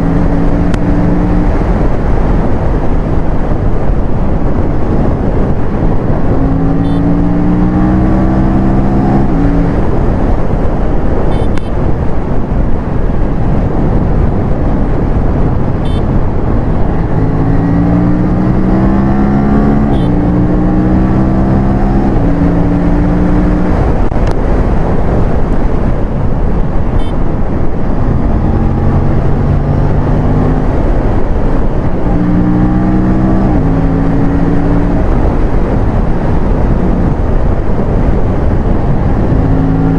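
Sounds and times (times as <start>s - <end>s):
motorcycle engine accelerating: 0.0s - 3.6s, 4.4s - 11.8s, 13.1s - 39.9s
wind rush on microphone: 0.0s - 39.9s.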